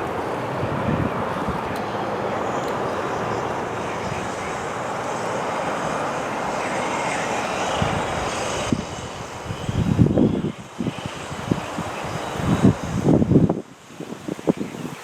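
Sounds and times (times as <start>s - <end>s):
jet engines: 0.0s - 15.0s
wind buffeting microphone: 0.0s - 15.0s.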